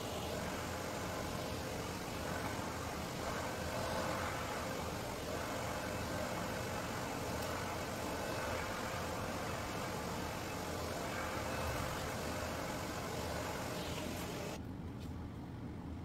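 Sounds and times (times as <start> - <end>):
hair dryer blowing air: 0.0 - 14.6.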